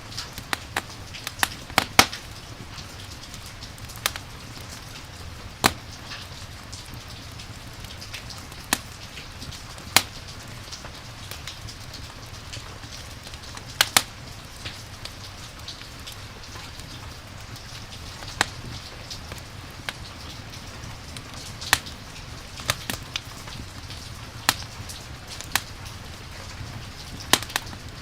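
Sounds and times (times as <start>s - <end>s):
campfire crackling and popping: 0.0s - 28.0s
rain hissing: 0.0s - 28.0s.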